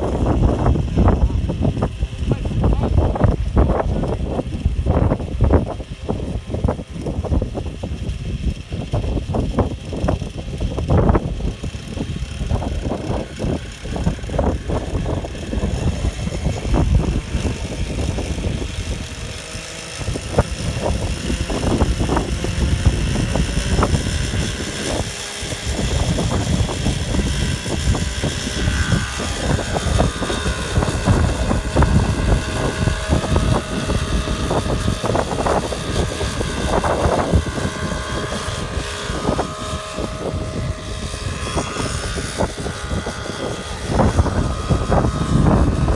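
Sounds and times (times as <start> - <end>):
model airplane motor and propeller: 0.0 - 45.9
wind buffeting on microphone: 0.0 - 45.9.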